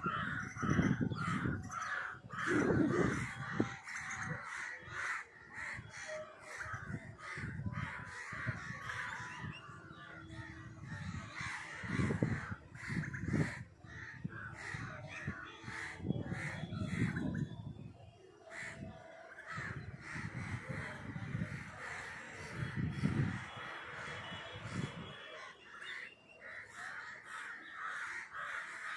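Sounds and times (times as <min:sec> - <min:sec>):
crows cawing: 0:00.0 - 0:17.4, 0:18.5 - 0:28.9.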